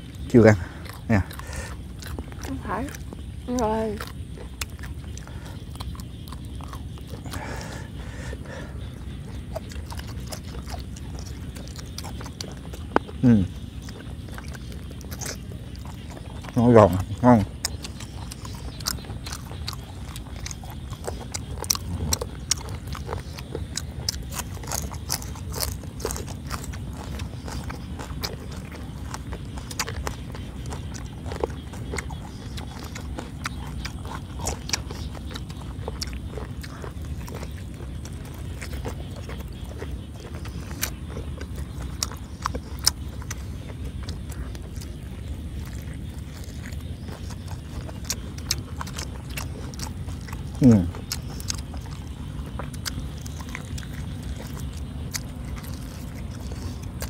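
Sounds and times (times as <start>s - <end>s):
chewing crunchy meat: 0.0s - 57.0s
steady low rumble: 0.0s - 57.0s.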